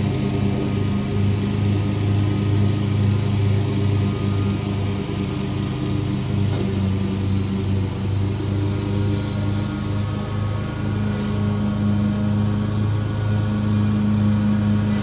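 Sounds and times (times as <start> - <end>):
mower engine humming: 0.0 - 15.0.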